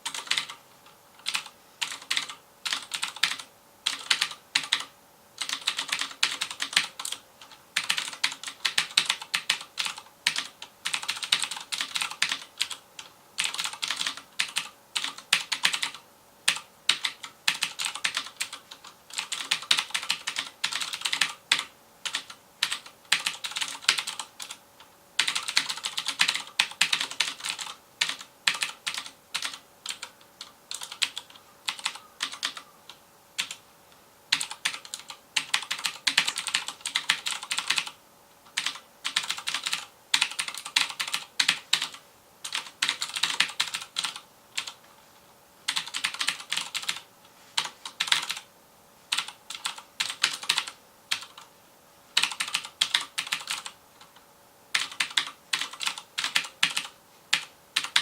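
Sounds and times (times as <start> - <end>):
clicky mechanical keyboard typing: 0.0 - 24.6, 25.2 - 33.6, 34.3 - 44.8, 45.7 - 48.5, 49.1 - 51.5, 52.2 - 58.0.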